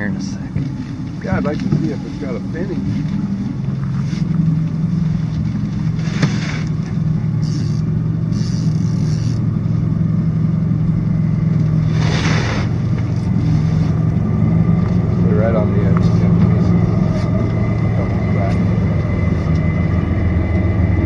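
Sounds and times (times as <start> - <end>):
outboard motor humming: 0.0 - 21.0.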